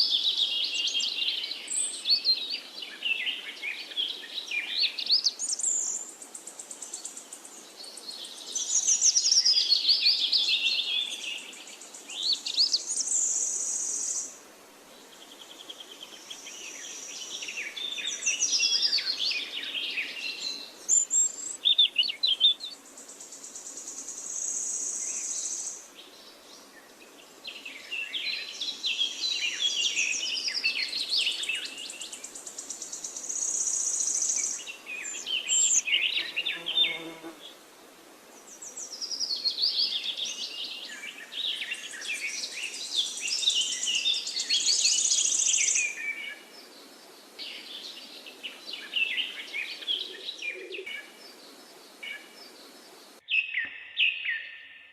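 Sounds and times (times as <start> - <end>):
songbirds singing: 0.0 - 37.6, 38.2 - 54.9.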